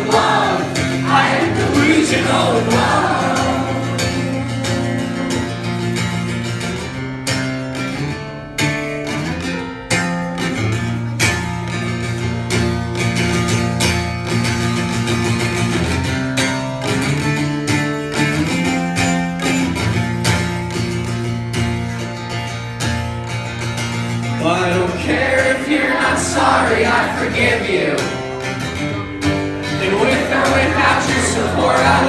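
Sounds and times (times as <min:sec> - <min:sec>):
guitar strumming chords: 0:00.0 - 0:32.0.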